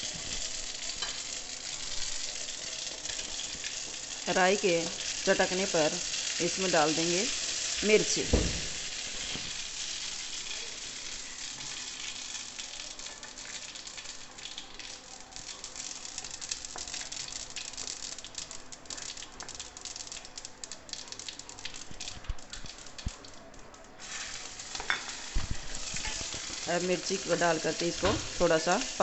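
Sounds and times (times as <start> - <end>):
seeds sizzling in hot oil: 0.0 - 22.9, 24.0 - 29.0.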